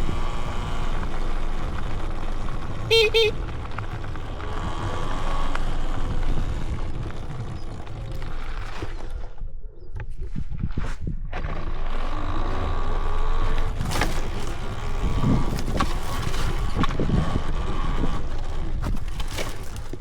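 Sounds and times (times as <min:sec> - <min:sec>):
electric dirt bike motor whine: 0:00.0 - 0:09.2, 0:11.4 - 0:19.4.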